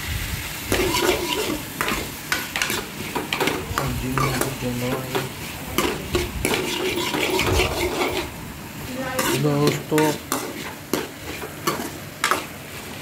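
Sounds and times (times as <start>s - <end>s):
food sizzling in oil: 0.0s - 13.0s
metal spoon scraping metal pan: 0.7s - 8.4s, 9.0s - 12.5s.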